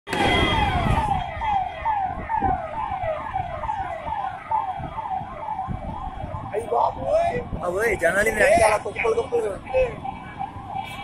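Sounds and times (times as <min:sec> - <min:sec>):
electronic siren wailing: 0:00.1 - 0:11.0.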